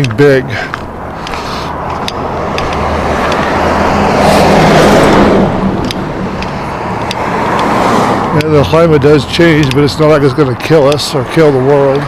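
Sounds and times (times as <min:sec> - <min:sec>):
vehicle passing by: 0:00.5 - 0:12.0.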